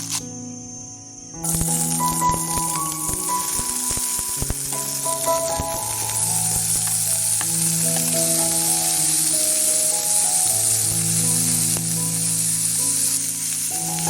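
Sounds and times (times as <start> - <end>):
music of long held notes: 0.0 - 14.0
oil sizzling in a frying pan: 1.5 - 14.0.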